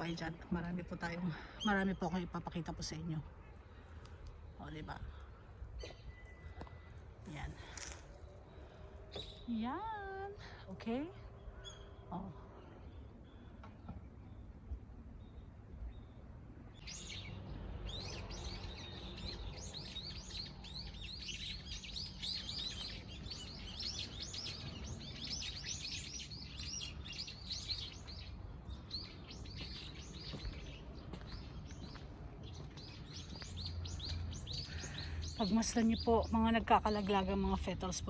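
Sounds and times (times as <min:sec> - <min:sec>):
small birds twittering: 0:00.0 - 0:38.0.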